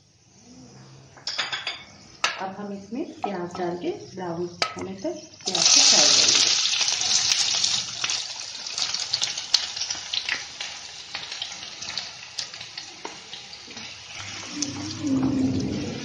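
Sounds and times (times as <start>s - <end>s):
onions sizzling in hot oil: 2.9s - 16.0s.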